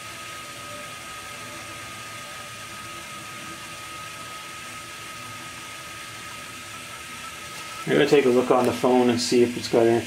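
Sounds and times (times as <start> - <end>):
thin steady high tone: 0.0 - 10.0
water flowing through pipes: 0.0 - 10.0.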